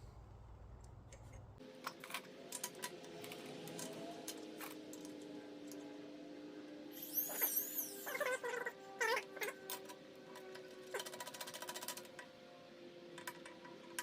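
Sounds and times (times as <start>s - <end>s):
faint steady tones: 0.0s - 14.0s
low hum: 0.0s - 14.0s.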